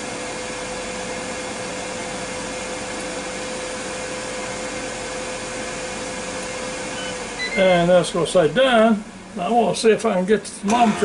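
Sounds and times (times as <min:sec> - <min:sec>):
appliance fan whirring: 0:00.0 - 0:11.0.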